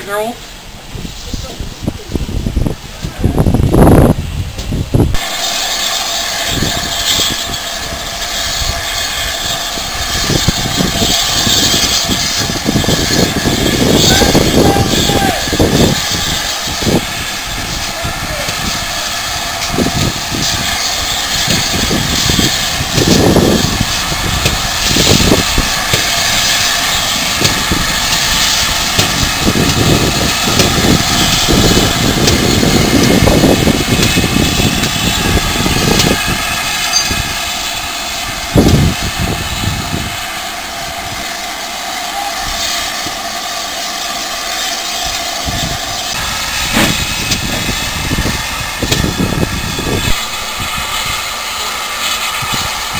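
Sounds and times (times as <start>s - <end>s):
steam hissing: 0.0s - 52.9s.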